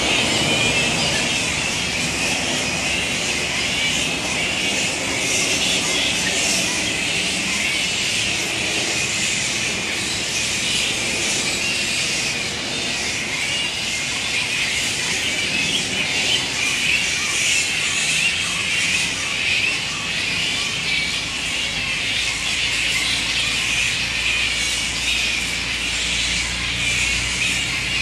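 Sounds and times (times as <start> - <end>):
flying fox colony screeching: 0.0 - 28.0.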